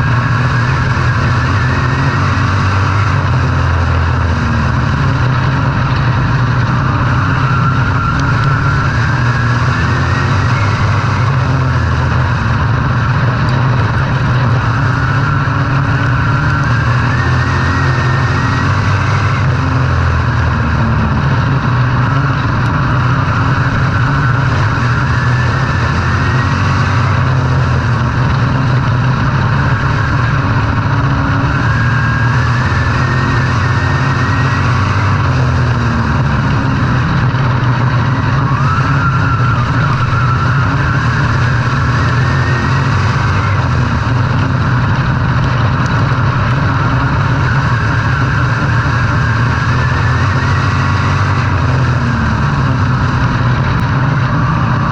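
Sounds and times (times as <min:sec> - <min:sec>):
racing engines revving: 0:00.0 - 0:54.9.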